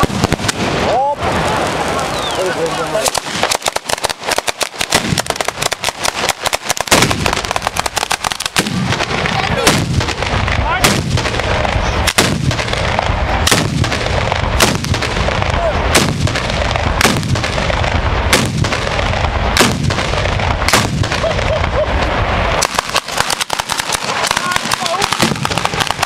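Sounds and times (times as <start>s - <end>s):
firecrackers crackling: 0.0s - 26.0s
loud firework bangs: 0.0s - 26.0s.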